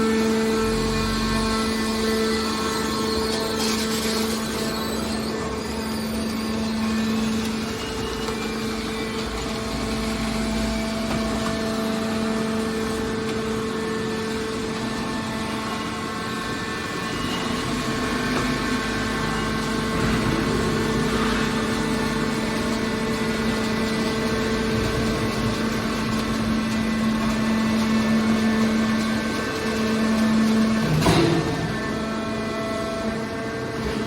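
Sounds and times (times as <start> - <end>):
hydraulic baler humming: 0.0 - 34.0.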